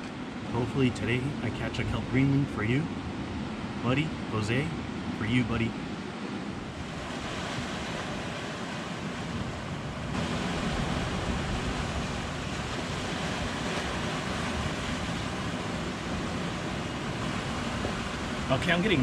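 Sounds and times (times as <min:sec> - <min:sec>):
ocean surf washing: 0:00.0 - 0:19.0
wind on the microphone: 0:01.6 - 0:19.0.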